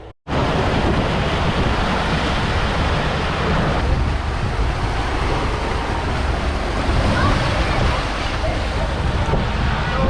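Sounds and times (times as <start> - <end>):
sea waves rushing: 0.0 - 10.0
wind buffeting microphone: 0.3 - 10.0.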